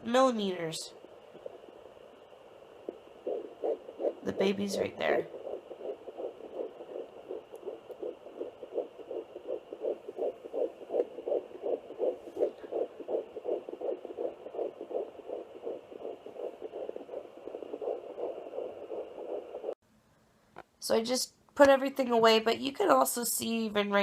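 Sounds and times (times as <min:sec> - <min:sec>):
fast fetal heartbeat pulsing: 0:00.0 - 0:19.8.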